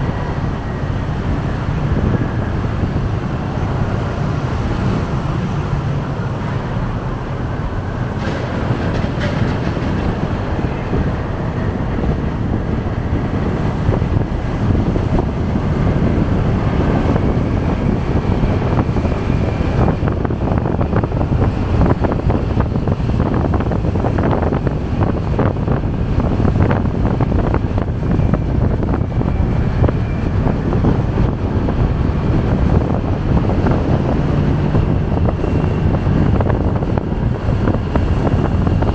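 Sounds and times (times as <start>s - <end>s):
road and traffic noise: 0.0s - 38.9s
wind rushing over microphone: 0.0s - 38.9s.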